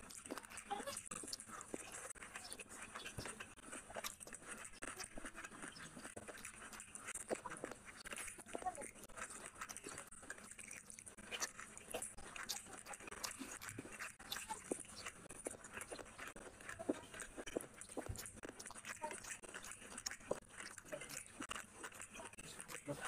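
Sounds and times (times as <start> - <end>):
chewing and mouth smacking: 0.0 - 23.0
fingers squelching through rice: 0.0 - 23.0.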